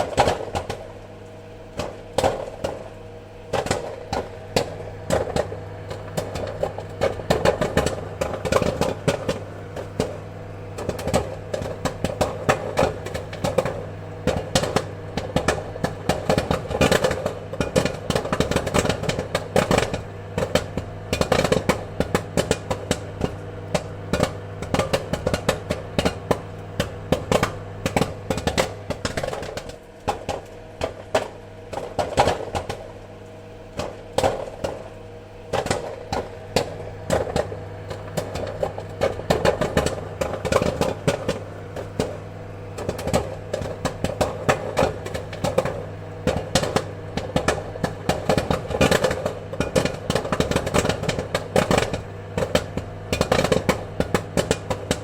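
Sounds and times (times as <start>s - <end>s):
popcorn popping: 0.0s - 55.0s
steady low hum: 0.0s - 55.0s.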